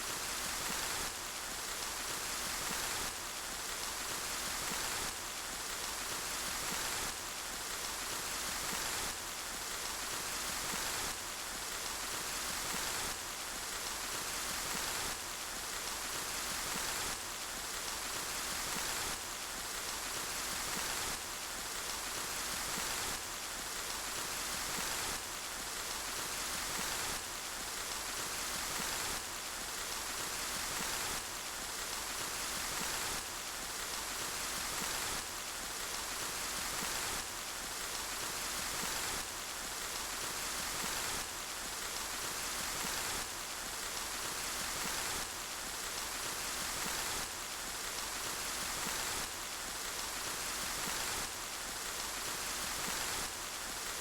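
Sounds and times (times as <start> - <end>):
steady dense rainfall: 0.0 - 54.0.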